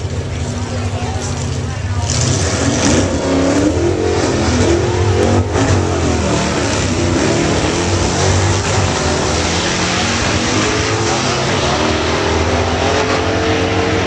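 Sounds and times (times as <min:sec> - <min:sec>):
drag racing engines revving: 0:00.0 - 0:14.0.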